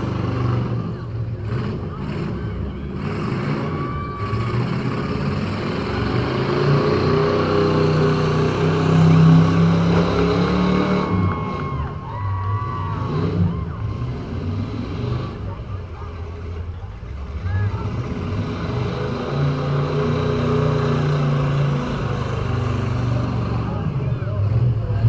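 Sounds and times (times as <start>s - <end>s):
car engines running: 0.0s - 25.0s.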